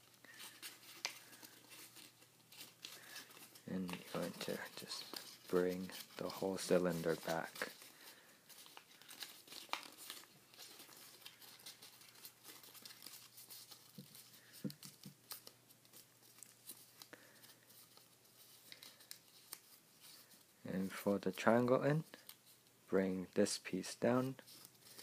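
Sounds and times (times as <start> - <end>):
paper rustling and crinkling: 0.0 - 22.7, 23.4 - 25.0.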